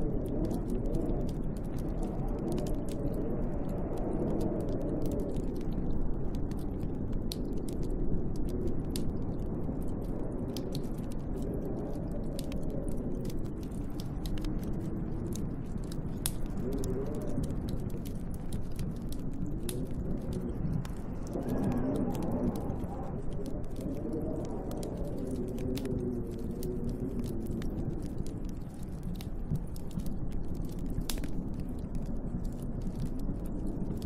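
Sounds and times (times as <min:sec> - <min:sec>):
storm wind howling: 0:00.0 - 0:34.0
wood fire crackling: 0:00.0 - 0:34.0.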